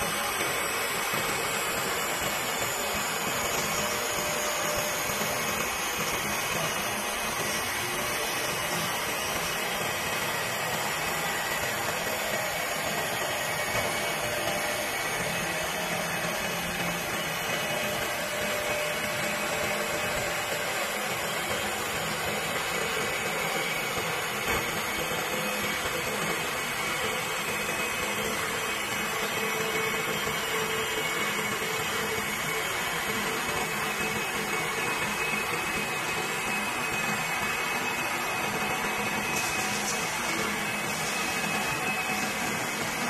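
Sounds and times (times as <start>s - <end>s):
wood lathe whirring: 0.0s - 43.0s.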